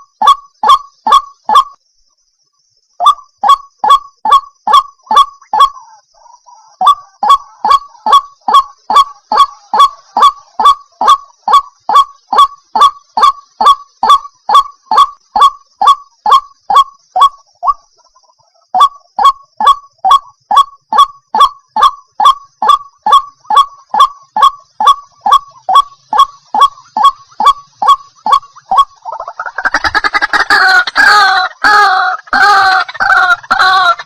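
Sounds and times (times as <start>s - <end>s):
waterhen calling: 3.0s - 34.0s.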